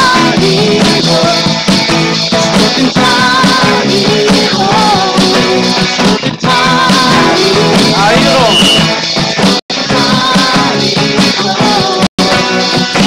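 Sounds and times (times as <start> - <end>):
voices singing: 0.0 - 9.0, 9.7 - 13.0
drums: 0.0 - 13.0
guitars: 0.0 - 13.0.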